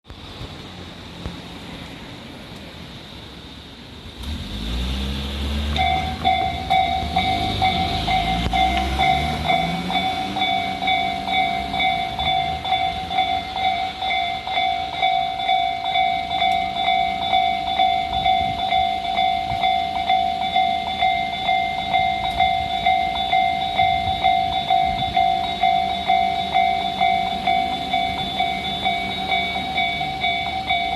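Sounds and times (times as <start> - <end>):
low engine rumble: 0.1 - 30.9
level crossing alarm clanging: 5.7 - 30.9.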